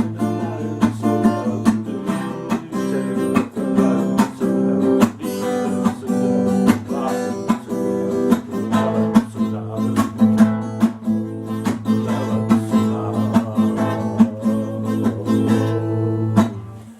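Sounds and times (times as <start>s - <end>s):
acoustic guitar chords strummed: 0.0s - 16.9s.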